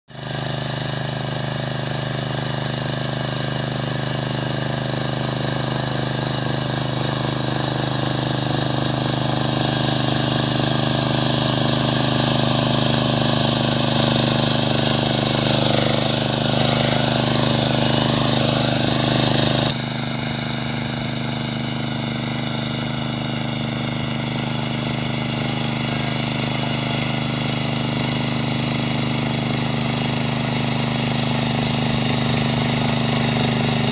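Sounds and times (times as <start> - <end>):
power tiller engine running: 0.1 - 33.9
tines churning soil: 0.1 - 33.9.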